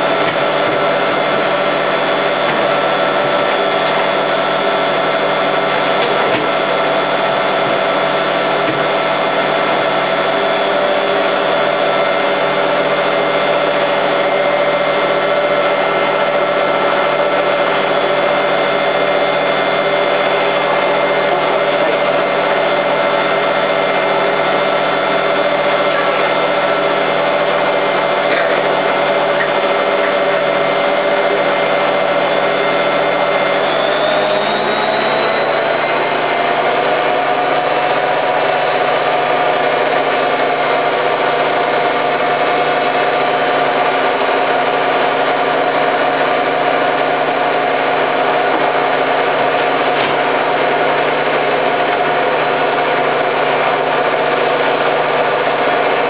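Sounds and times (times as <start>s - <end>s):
washing machine spinning whine: 0.0s - 56.0s.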